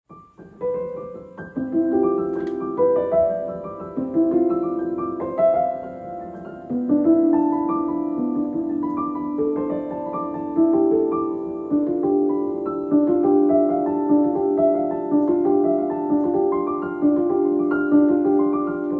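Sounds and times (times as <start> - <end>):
soft piano melody: 0.1 - 18.9.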